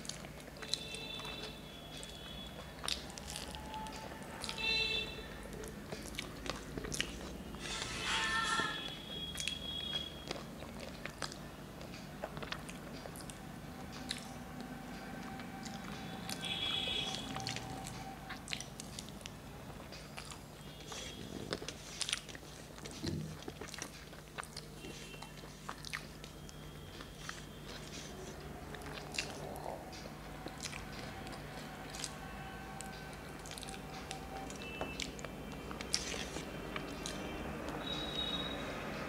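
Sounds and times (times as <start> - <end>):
person chewing food: 0.0 - 38.4.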